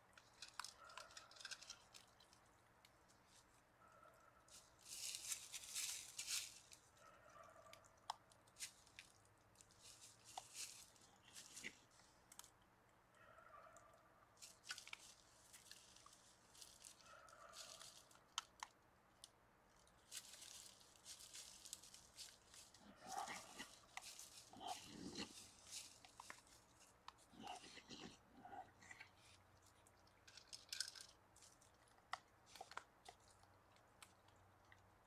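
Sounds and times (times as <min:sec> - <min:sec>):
animals crunching dry leaves: 0:00.2 - 0:03.6, 0:04.4 - 0:12.1, 0:14.4 - 0:18.6, 0:19.8 - 0:34.8.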